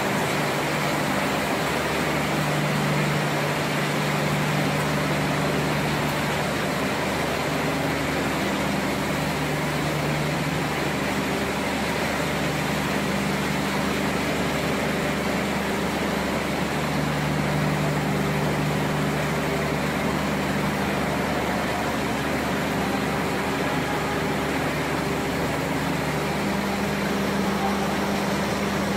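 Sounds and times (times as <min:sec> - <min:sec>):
low humming tones: 0:00.0 - 0:28.9
machinery hum and hiss: 0:00.0 - 0:28.9.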